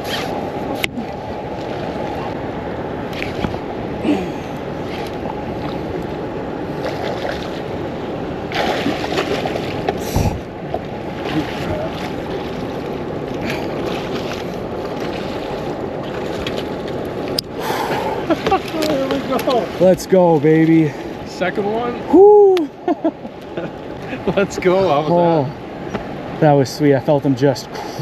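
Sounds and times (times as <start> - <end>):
water rushing from spillway: 0.0 - 22.9.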